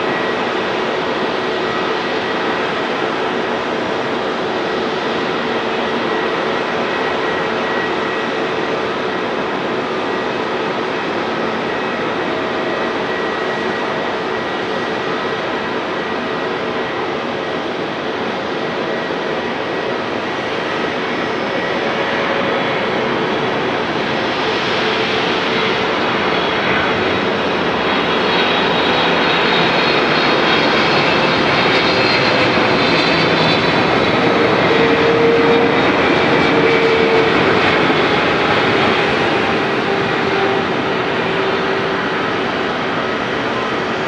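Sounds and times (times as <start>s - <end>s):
jet engines rushing and whining: 0.0s - 44.0s.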